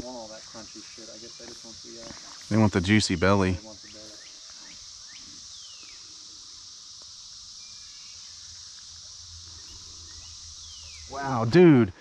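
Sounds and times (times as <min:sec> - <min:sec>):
cicada chorus droning: 0:00.0 - 0:12.0.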